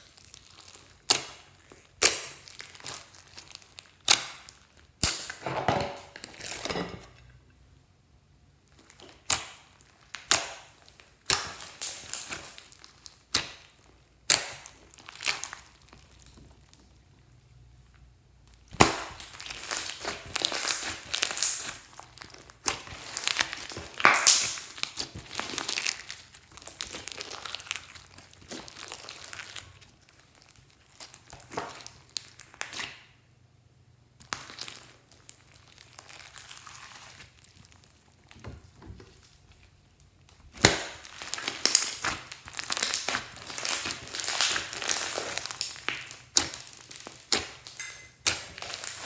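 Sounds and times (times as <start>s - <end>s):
slime crackling and popping: 0.0s - 5.4s, 8.7s - 17.0s, 18.4s - 33.1s, 34.2s - 49.0s.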